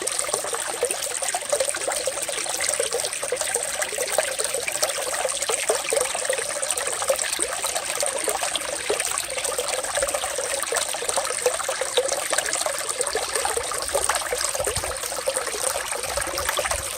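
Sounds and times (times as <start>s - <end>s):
water trickling and dripping: 0.0s - 16.9s.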